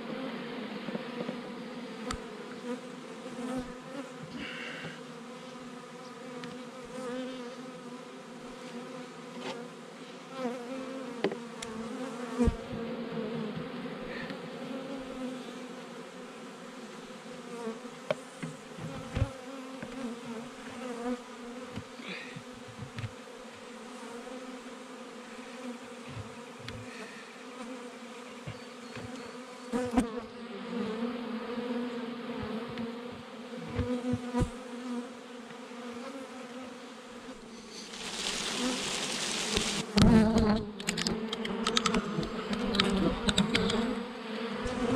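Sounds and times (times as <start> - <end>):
bees buzzing: 0.0 - 44.9.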